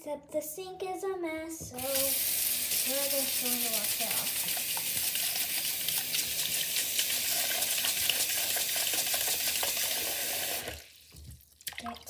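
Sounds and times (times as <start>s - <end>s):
tap water running into sink: 1.8s - 12.0s.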